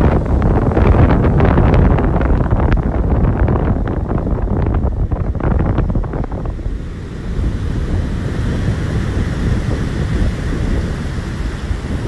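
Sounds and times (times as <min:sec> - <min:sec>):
ocean waves breaking over rocks: 0:00.0 - 0:12.0
wind buffeting microphone: 0:00.0 - 0:12.0.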